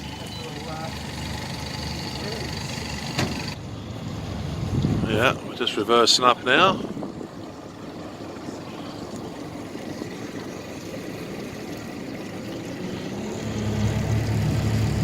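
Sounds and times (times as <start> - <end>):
deeper engine hum: 0.0 - 15.0
outboard engines running: 0.0 - 15.0
water wash: 0.0 - 15.0.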